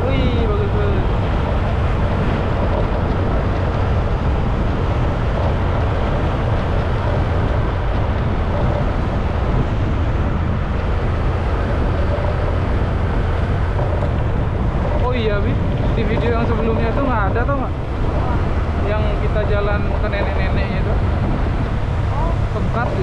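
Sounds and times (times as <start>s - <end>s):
motorcycle engine: 0.0s - 23.0s
wind rushing over microphone: 0.0s - 23.0s.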